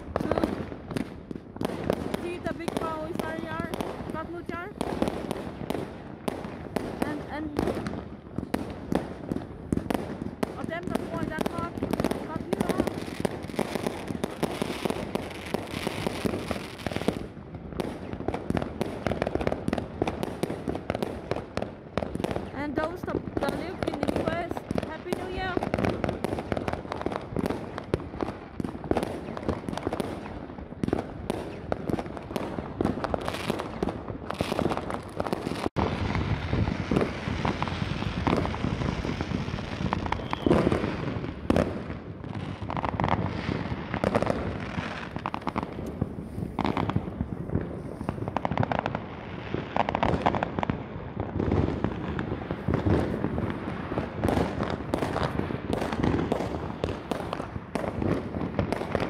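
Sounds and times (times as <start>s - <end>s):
fireworks bangs and pops: 0.0s - 59.0s.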